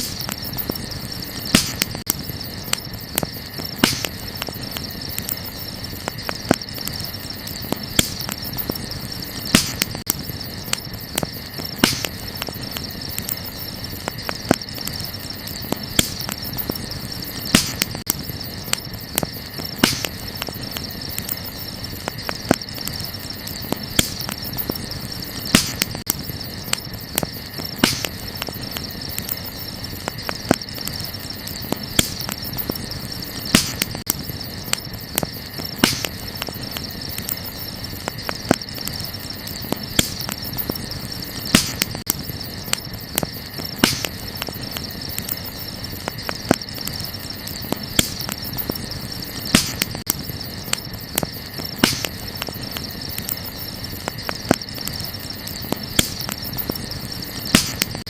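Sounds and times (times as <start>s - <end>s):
burning wood crackling and popping: 0.0s - 58.0s
crickets chirping: 0.0s - 58.0s.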